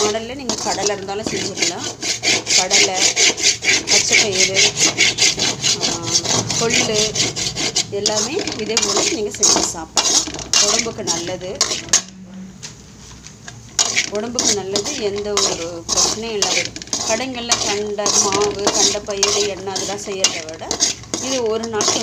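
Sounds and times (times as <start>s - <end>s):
metal spoon scraping metal pan: 0.0s - 12.2s, 13.5s - 22.0s.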